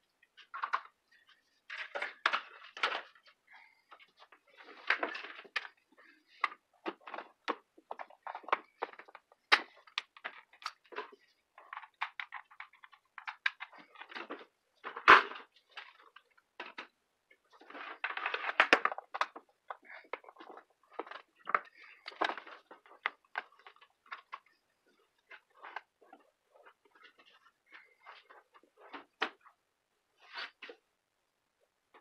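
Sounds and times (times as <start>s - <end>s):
power cords and plugs handled: 0.4s - 29.5s.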